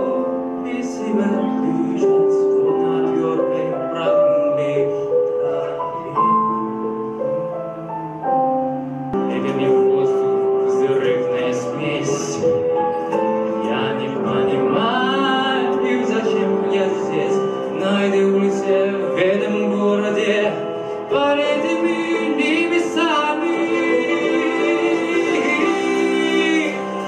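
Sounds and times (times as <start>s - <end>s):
person singing with instrumental backing: 0.0s - 27.0s.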